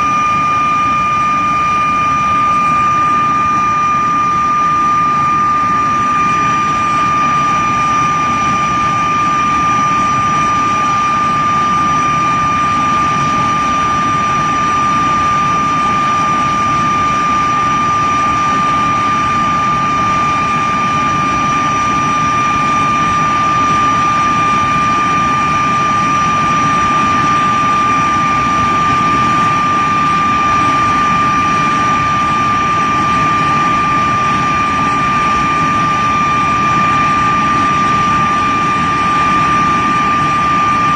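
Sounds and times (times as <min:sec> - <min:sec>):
jet engine whine and roar: 0:00.0 - 0:40.9.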